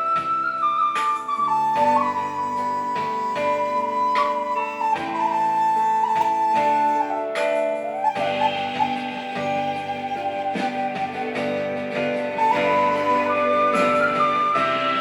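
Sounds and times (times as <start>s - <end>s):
bamboo flute melody: 0.0s - 15.0s
soft regular beat: 0.0s - 15.0s.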